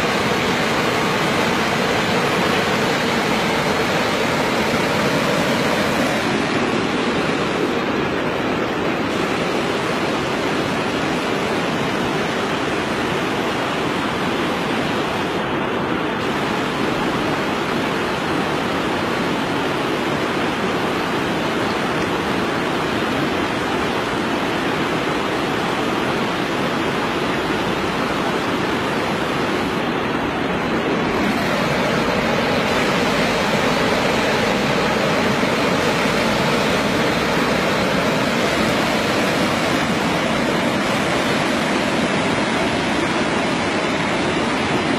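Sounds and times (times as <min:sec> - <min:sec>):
flowing water rushing: 0:00.0 - 0:44.9.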